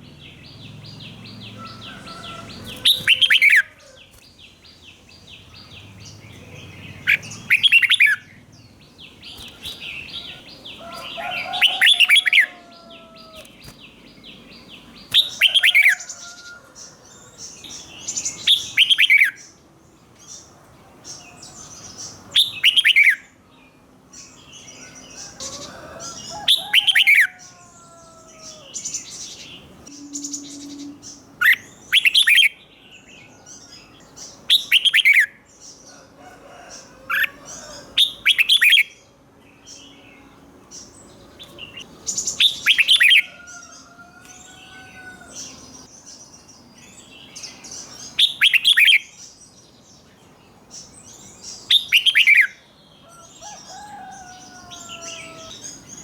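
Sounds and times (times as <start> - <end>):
bird chattering and twittering: 0.0 - 56.0
bird song phrases: 0.0 - 56.0.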